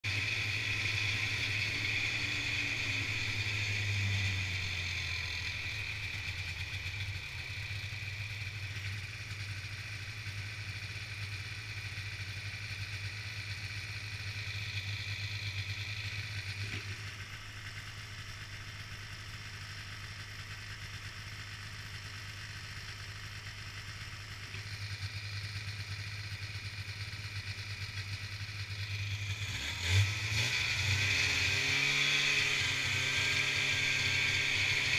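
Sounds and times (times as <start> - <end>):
snowmobile engine idling: 0.0 - 34.9.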